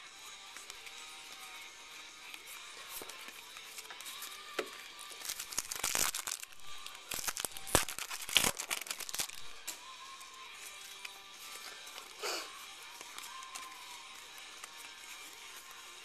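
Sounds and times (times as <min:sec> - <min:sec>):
wrapper crinkling and tearing: 0:02.2 - 0:09.8, 0:10.5 - 0:15.8.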